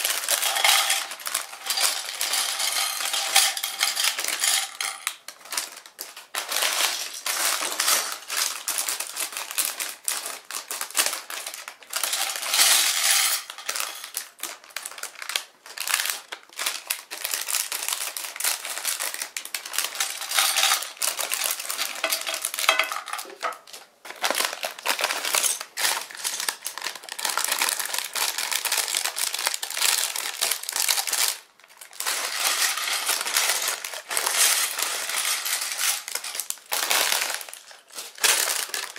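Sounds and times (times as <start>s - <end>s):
plastic bags crinkling: 0.0s - 38.9s
plastic bricks clattering on plate: 0.0s - 38.9s.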